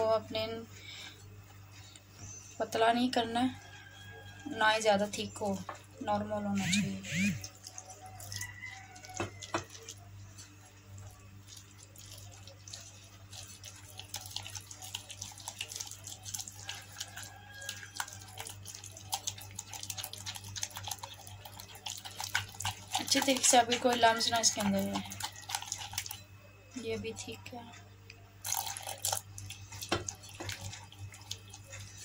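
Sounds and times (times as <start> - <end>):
batter squelching: 3.2 - 27.5, 28.3 - 32.0.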